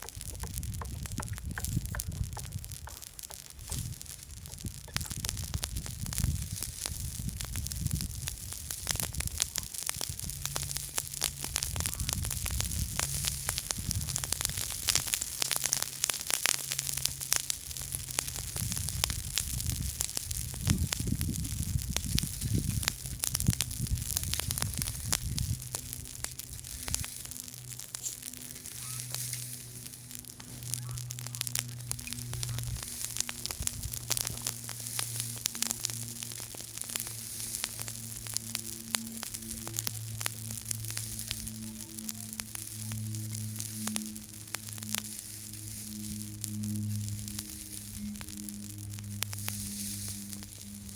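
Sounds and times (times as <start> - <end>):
campfire crackling: 0.0 - 50.9
low steady hum: 0.0 - 50.9.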